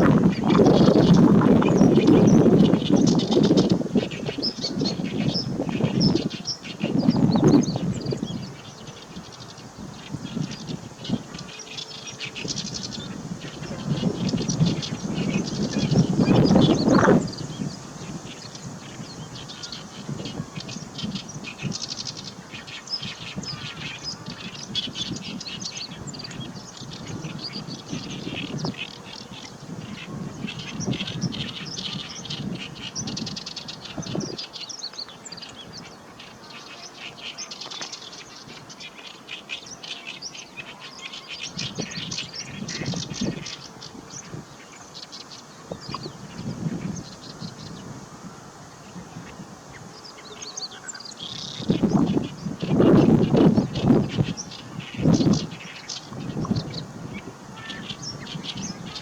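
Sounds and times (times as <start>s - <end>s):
wind buffeting microphone: 0.0s - 34.6s, 41.4s - 50.3s, 51.2s - 59.0s
warbler singing: 0.0s - 59.0s.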